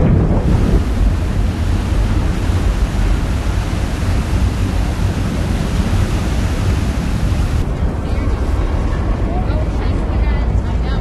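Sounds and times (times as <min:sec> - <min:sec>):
low engine rumble: 0:00.0 - 0:11.0
water rushing along hull: 0:00.0 - 0:11.0.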